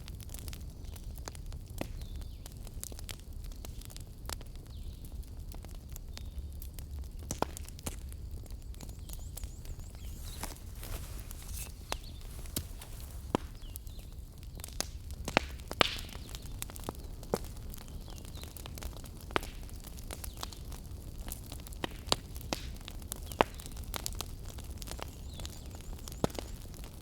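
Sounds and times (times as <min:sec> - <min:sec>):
fire crackling and popping: 0:00.0 - 0:27.0
low rumble of burning: 0:00.0 - 0:27.0.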